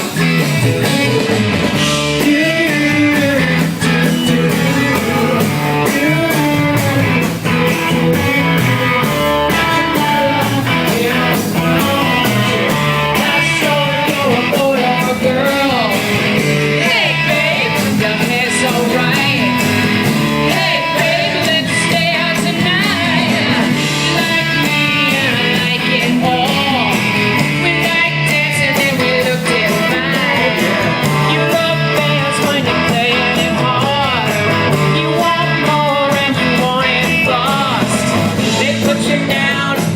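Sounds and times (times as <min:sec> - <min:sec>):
drums: 0:00.0 - 0:39.9
electric guitars: 0:00.0 - 0:39.9
person singing: 0:00.0 - 0:39.9.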